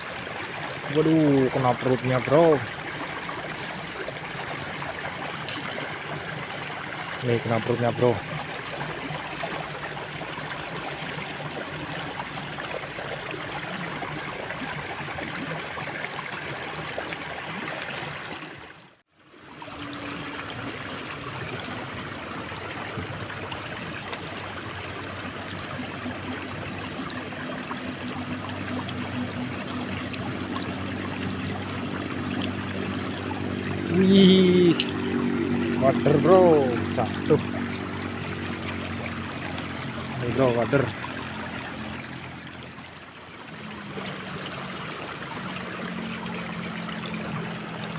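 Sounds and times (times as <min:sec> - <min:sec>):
water flowing in a ditch: 0:00.0 - 0:47.9.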